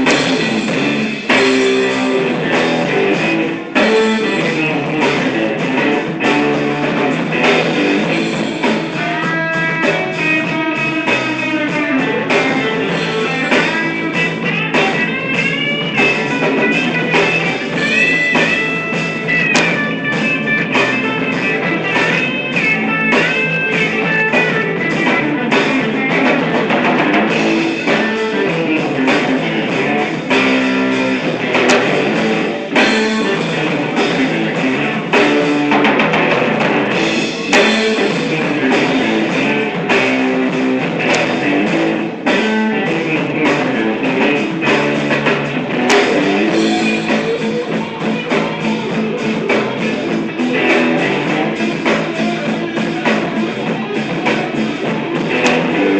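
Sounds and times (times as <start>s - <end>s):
bending lead guitar line: 0.0s - 55.9s
rock music with drums: 0.0s - 55.9s.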